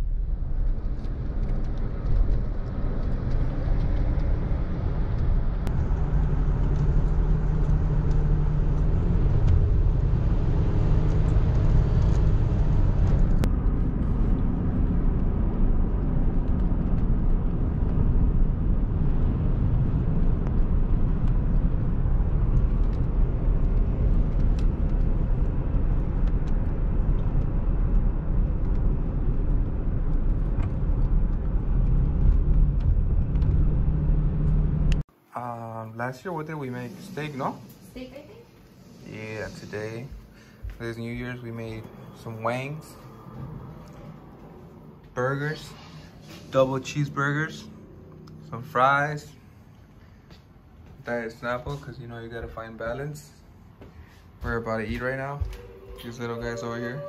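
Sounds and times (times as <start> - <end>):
car road and engine rumble: 0.0 - 35.3, 36.6 - 57.0.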